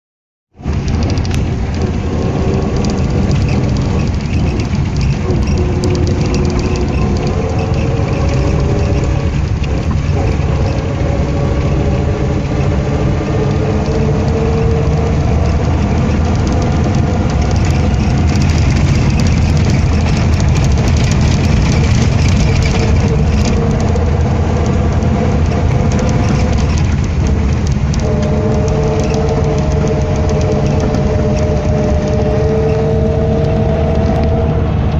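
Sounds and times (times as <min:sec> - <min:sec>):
car engine whining: 0:00.5 - 0:34.9
tyres rumbling on gravel: 0:00.5 - 0:34.9.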